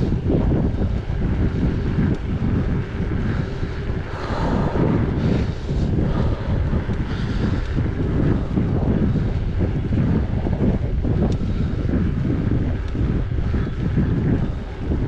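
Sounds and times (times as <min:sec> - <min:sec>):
tyres on paved road: 0:00.0 - 0:15.0
wind buffeting microphone: 0:00.0 - 0:15.0.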